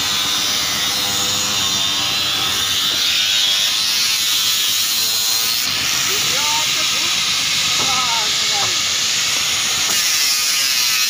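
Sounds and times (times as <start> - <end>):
electric grinder whine: 0.0 - 11.0.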